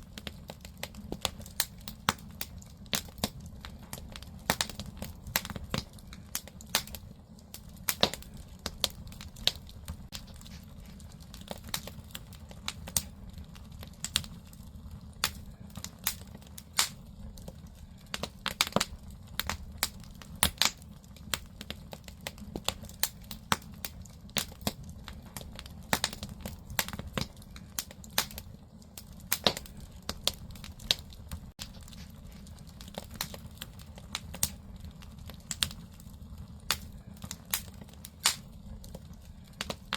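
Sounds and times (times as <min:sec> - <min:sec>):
firewood crackling and popping: 0:00.0 - 0:39.9
low rumble of fire: 0:00.0 - 0:39.9.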